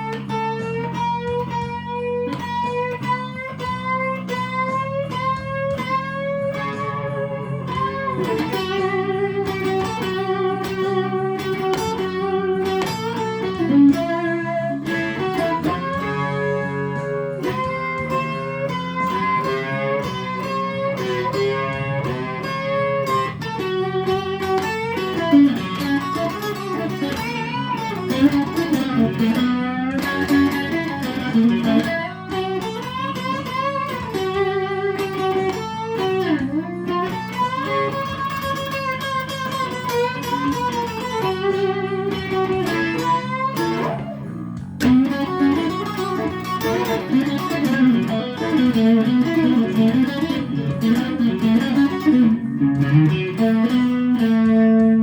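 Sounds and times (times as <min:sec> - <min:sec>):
electric guitar blues solo: 0:00.0 - 0:55.0
low backing music: 0:00.0 - 0:55.0.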